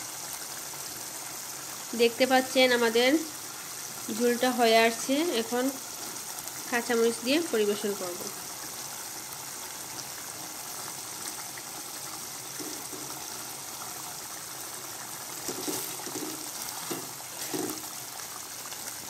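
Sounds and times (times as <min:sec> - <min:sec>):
curry boiling in a pan: 0:00.0 - 0:19.0.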